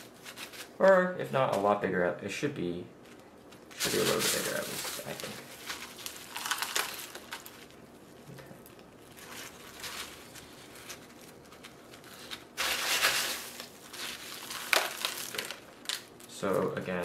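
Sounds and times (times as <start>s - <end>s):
potting mix scooped in foil tray: 3.0s - 17.0s.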